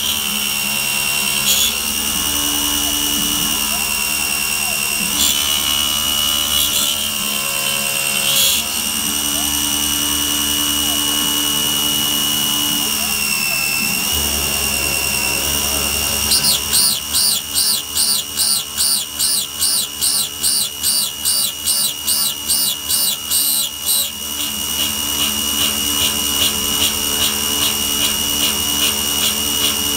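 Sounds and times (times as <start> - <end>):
end mill cutting metal pulsing: 0.0 - 29.9
mill spindle whining: 0.0 - 29.9.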